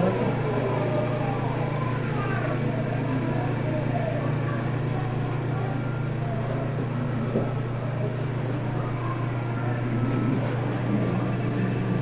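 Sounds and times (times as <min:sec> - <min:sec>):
distant voices murmuring: 0:00.0 - 0:12.0
steady low hum: 0:00.0 - 0:12.0.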